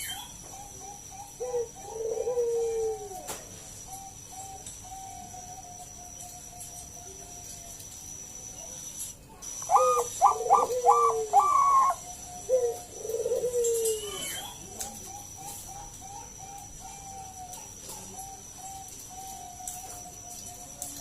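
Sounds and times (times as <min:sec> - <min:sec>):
dove cooing: 0:00.0 - 0:07.7, 0:09.5 - 0:21.0.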